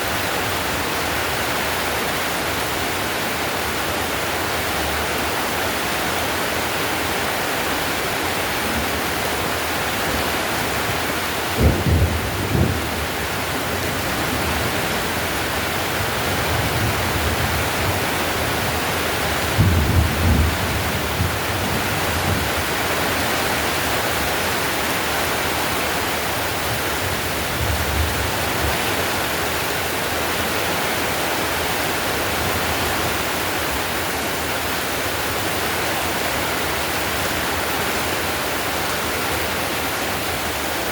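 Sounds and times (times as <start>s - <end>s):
heavy rain on a tiled roof: 0.0s - 40.9s.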